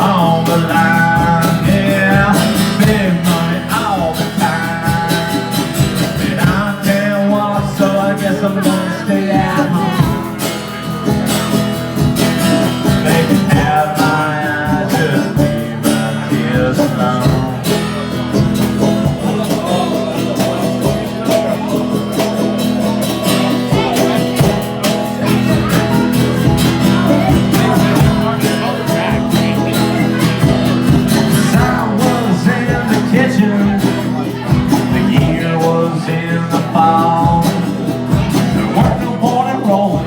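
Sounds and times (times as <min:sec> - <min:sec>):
bass line: 0:00.0 - 0:40.0
guitars: 0:00.0 - 0:40.0
steady drum beat: 0:00.0 - 0:40.0.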